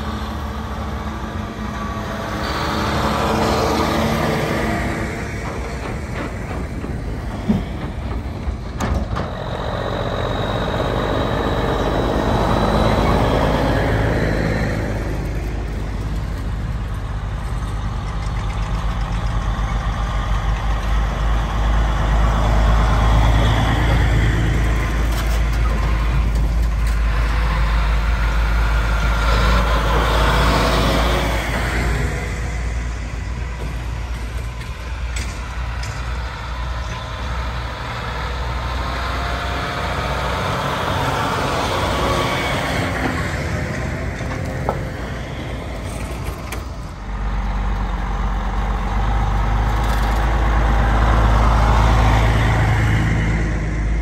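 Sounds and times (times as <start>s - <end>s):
diesel farm machinery engine drone: 0.0s - 54.0s.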